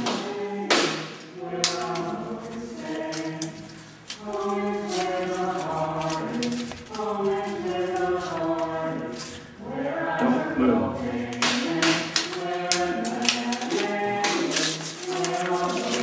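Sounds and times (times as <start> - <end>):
group singing without instruments: 0.0 - 16.0.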